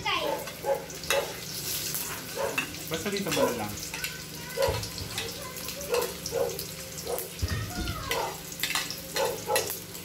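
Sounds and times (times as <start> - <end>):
food frying in oil: 0.0 - 10.0.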